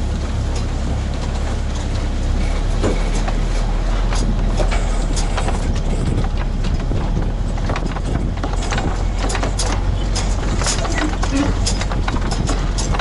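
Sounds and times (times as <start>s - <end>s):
diesel engine running: 0.0s - 13.0s
light clicks and knocks: 0.5s - 13.0s.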